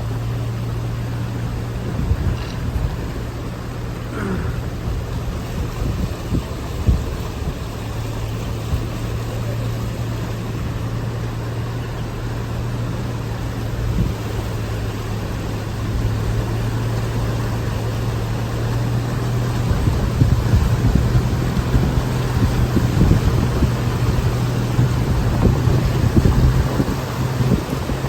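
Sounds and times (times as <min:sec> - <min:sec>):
heavy rain rushing: 0:00.0 - 0:28.0.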